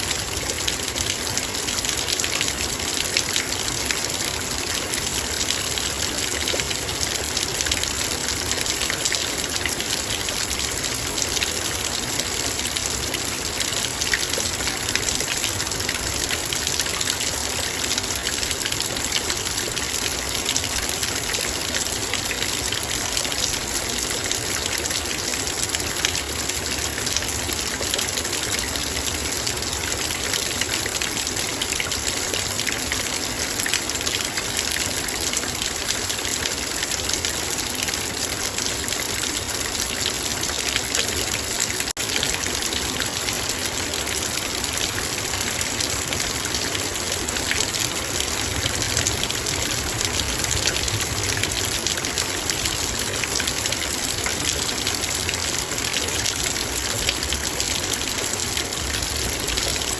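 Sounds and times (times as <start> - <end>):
rain on a metal bowl: 0.0 - 59.9.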